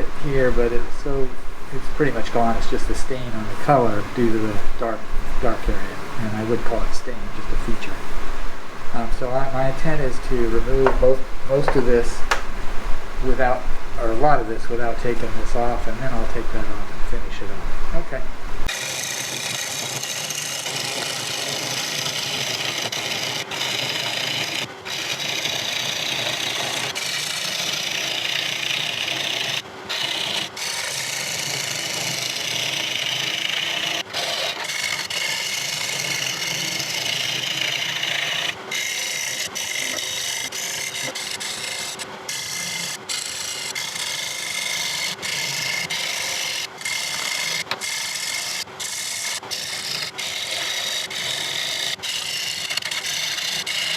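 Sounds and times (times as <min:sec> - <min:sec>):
lathe tool scraping wood: 0:00.0 - 0:53.9.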